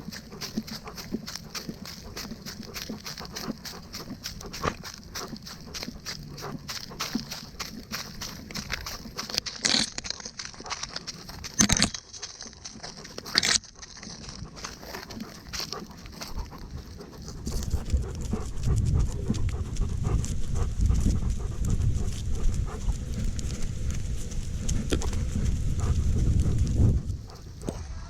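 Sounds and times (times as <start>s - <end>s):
dog panting: 0.0s - 28.0s
low rustling and jostling: 0.0s - 28.0s.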